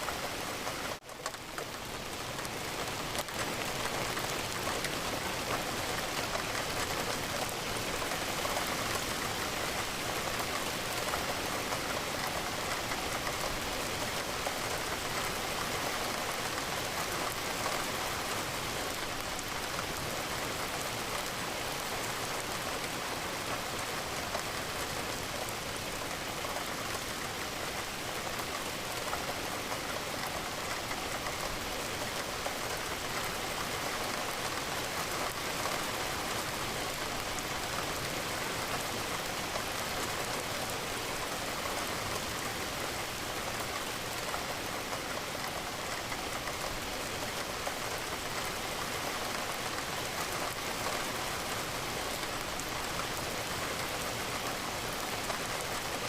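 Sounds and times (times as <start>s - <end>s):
rain pattering on window: 0.0s - 56.0s.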